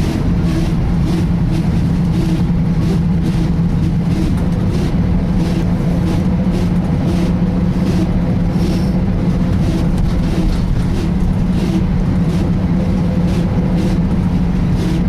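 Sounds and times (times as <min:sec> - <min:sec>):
bus engine drone: 0:00.0 - 0:15.0
rhythmic sweeping swish: 0:00.0 - 0:15.0.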